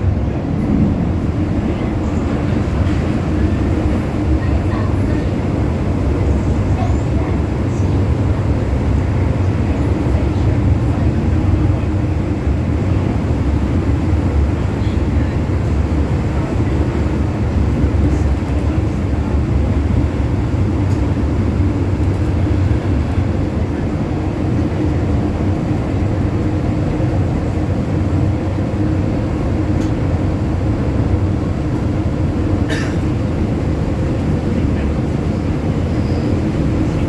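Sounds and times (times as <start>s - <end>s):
train wheels rumbling in tunnel: 0.0s - 37.0s.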